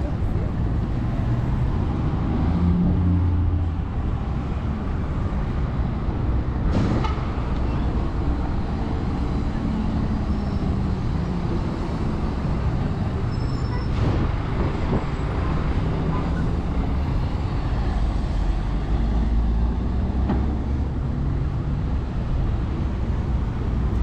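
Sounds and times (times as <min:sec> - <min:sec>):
traffic engines rumbling: 0:00.0 - 0:24.0.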